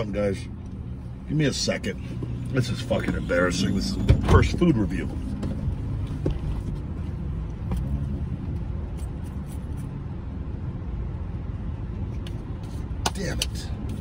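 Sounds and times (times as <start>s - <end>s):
low rumble inside truck cab: 0.0s - 14.0s.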